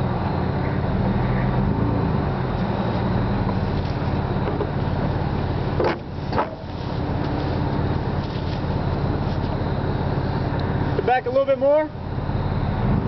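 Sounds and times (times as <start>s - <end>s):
truck engine running low: 0.0s - 13.0s.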